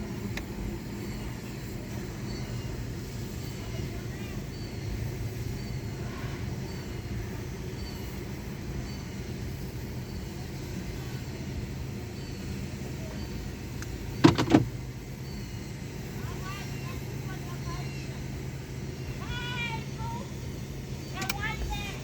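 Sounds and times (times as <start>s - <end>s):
car wash machinery humming: 0.0s - 22.0s.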